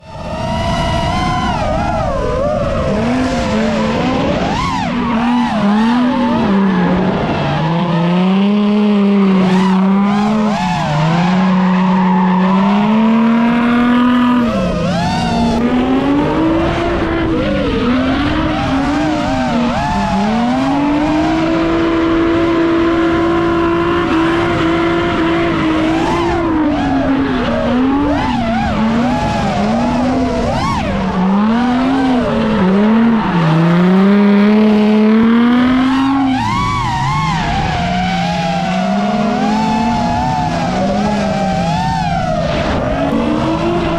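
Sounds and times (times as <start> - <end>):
car engine revving: 0.0 - 43.9
tyres skidding and squealing: 0.0 - 43.9.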